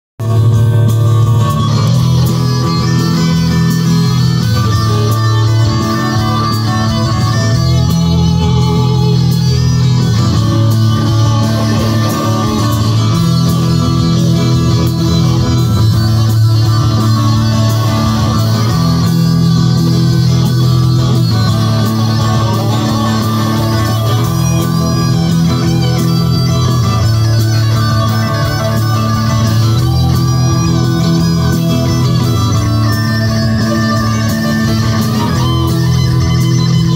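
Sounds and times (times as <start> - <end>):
electric guitar through amplifier: 0.2 - 36.9
live rock band: 0.2 - 36.9.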